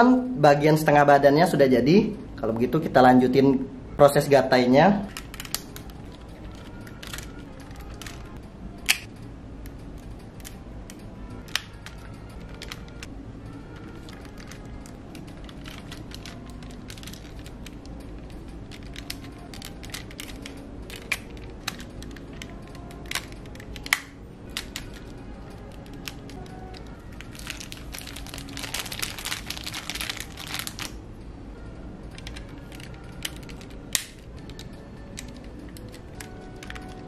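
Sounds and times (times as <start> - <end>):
plastic toy parts clicking: 5.1 - 13.1, 13.7 - 31.0, 32.1 - 37.0.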